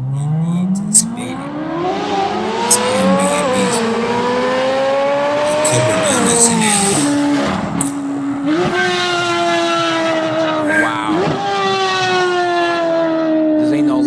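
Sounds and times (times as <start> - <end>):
sports car engine accelerating: 0.0 - 14.0.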